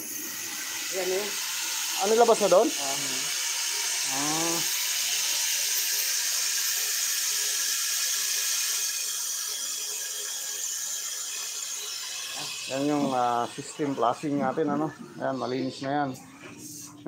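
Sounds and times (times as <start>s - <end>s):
pressurised gas hissing from a tube: 0.0s - 17.0s.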